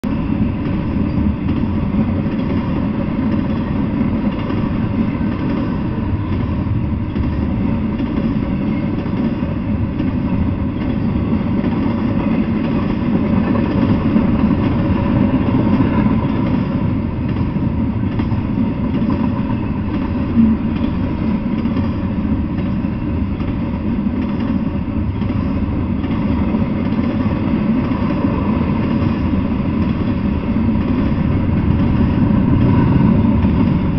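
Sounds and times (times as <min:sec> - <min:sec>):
freight train wheels rumbling: 0:00.0 - 0:33.9.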